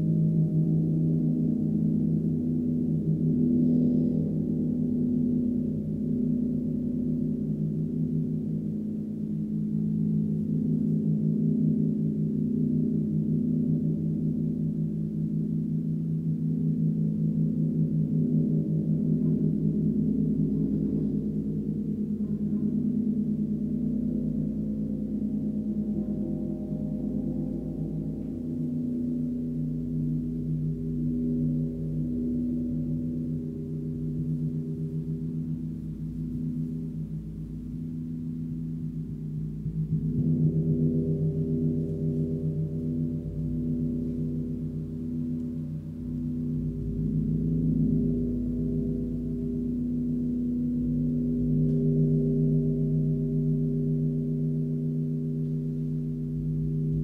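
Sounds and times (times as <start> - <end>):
deep gong drone: 0.0 - 57.0.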